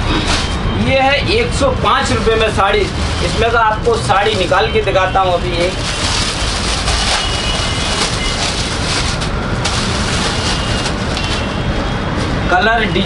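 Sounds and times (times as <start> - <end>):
plastic wrapping crinkling: 1.3 - 11.8.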